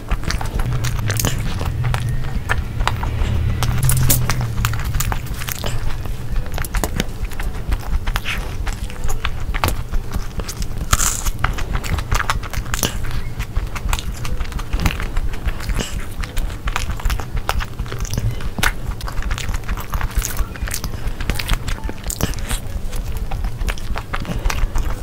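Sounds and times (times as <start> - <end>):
person chewing food: 0.0 - 25.0
wet mouth clicks and smacks: 0.0 - 25.0.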